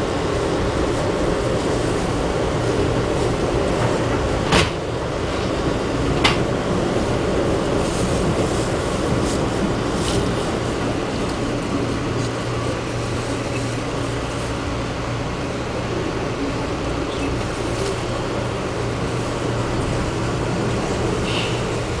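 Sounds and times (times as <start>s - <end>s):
train coach rolling on track: 0.0s - 22.0s.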